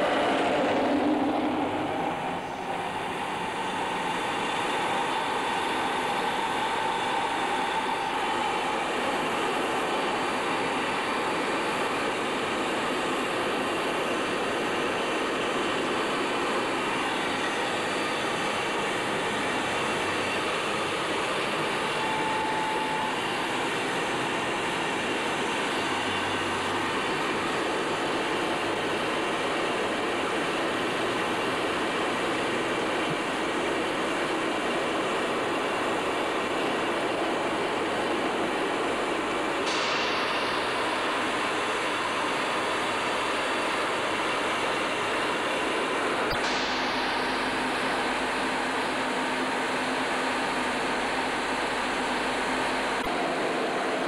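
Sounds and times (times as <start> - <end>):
jet cockpit engine and airflow noise: 0.0 - 54.0.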